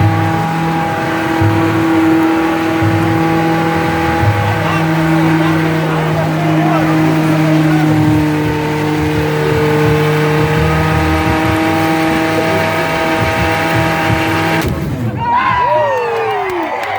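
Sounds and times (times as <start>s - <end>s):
car engine revving high: 0.0s - 15.2s
tyre burnout rushing noise: 0.0s - 16.8s
crowd shouting and cheering: 0.0s - 16.9s.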